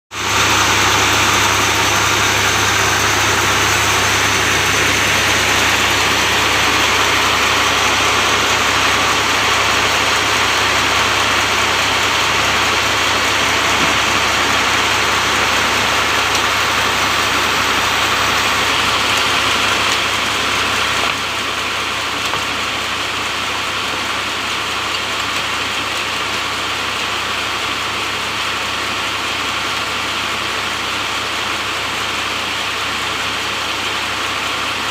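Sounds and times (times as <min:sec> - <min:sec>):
sawmill machinery whirring: 0:00.1 - 0:34.9.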